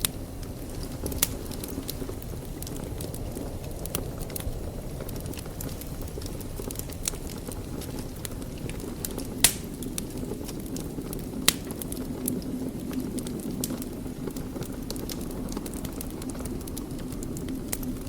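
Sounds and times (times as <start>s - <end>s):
burning logs popping: 0.0s - 18.0s
fireplace fire crackling: 0.0s - 18.0s.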